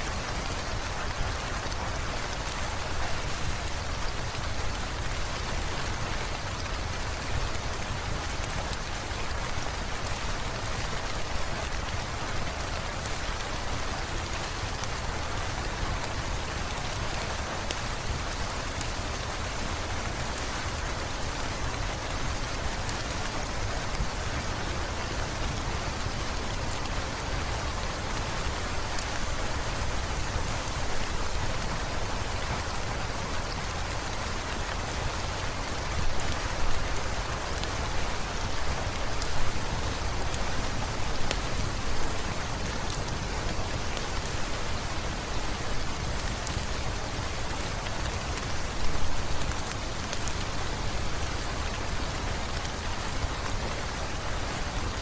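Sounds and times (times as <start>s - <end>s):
rain spatters: 0.0s - 55.0s
steady rain falling: 0.0s - 55.0s
sharp raindrop ticks: 0.2s - 54.8s.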